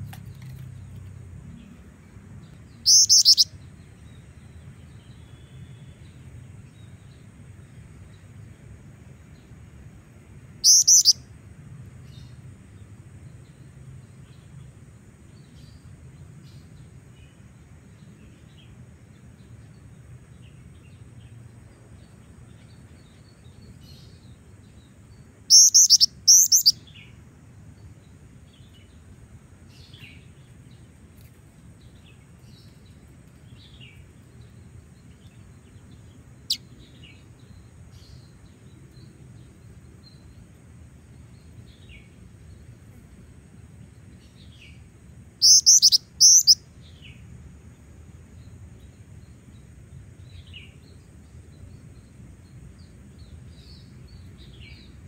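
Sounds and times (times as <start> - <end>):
bird chirping: 0.0 - 9.6, 10.5 - 11.3, 11.9 - 55.0.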